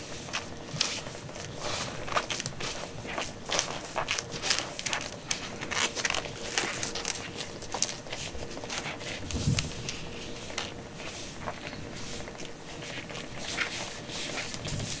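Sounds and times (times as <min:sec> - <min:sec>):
gloved hand rubbing kitten: 0:00.0 - 0:15.0.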